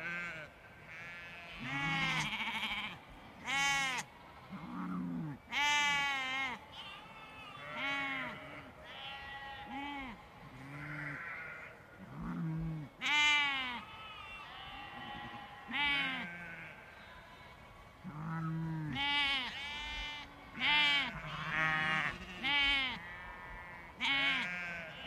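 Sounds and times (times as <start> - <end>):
sheep and lambs bleating: 0.0 - 17.1, 18.0 - 25.0.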